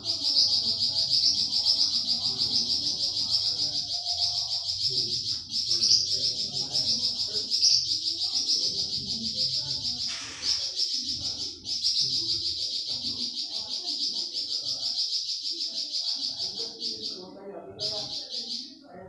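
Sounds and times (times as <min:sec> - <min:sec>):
songbird trilling: 0:00.0 - 0:18.8.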